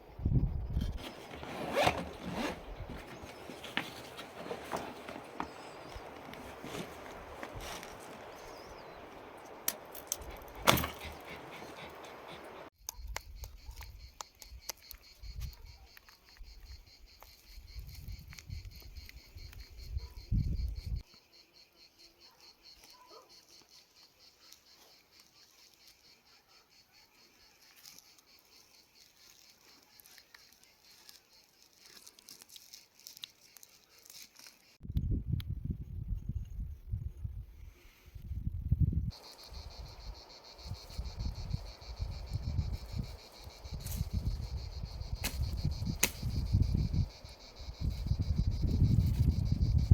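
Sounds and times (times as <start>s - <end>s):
insects chirping: 0.2s - 34.8s, 38.7s - 49.9s.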